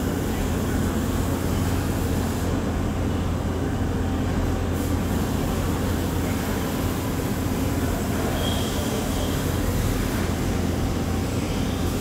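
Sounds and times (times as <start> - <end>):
machinery hum and rumble: 0.0 - 12.0.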